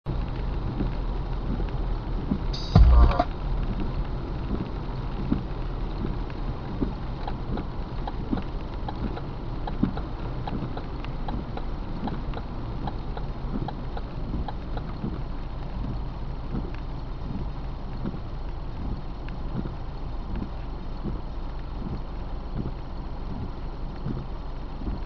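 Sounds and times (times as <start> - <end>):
raindrops ticking on windshield: 0.1 - 25.0.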